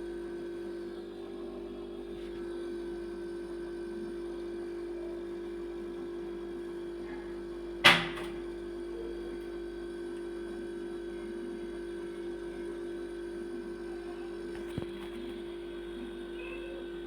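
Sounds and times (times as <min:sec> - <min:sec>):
refrigerator compressor hum: 0:00.0 - 0:17.0.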